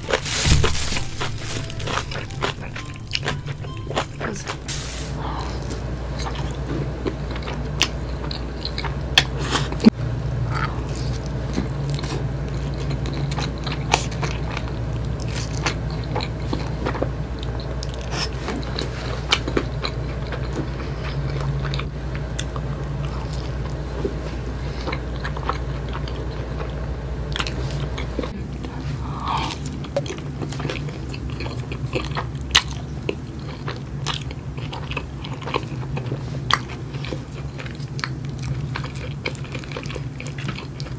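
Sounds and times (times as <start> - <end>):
person biting and chewing food: 0.0 - 9.9, 10.5 - 40.9
steady low hum: 0.0 - 40.9.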